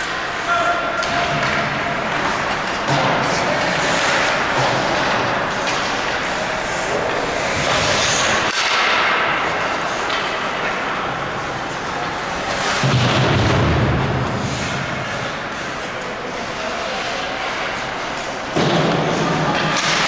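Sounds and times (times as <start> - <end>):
players' voices: 0.0 - 20.0
skates on ice and sticks: 0.0 - 20.0.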